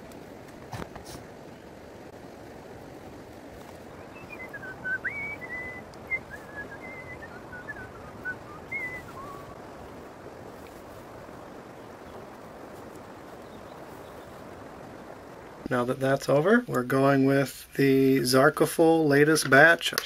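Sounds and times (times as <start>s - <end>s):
creek water rushing: 0.0s - 16.4s.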